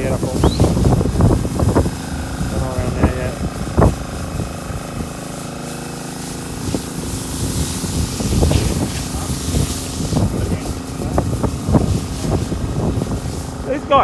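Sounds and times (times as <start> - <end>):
pressure washer spray hissing: 0.0 - 14.0.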